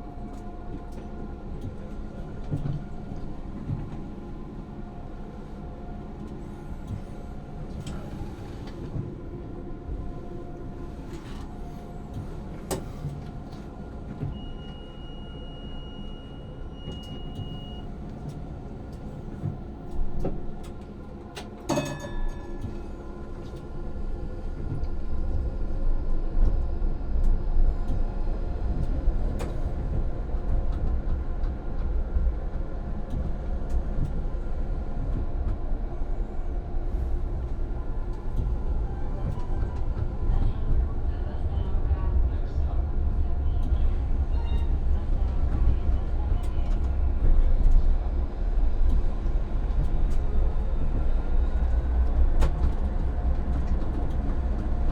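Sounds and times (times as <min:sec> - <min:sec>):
tram rumbling on rails: 0:00.0 - 0:54.9.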